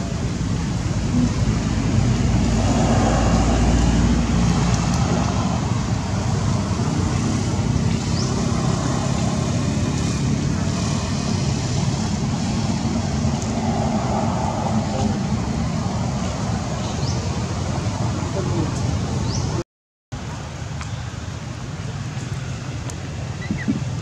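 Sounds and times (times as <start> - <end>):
passing motor traffic rumble: 0.0 - 19.6, 20.2 - 24.0.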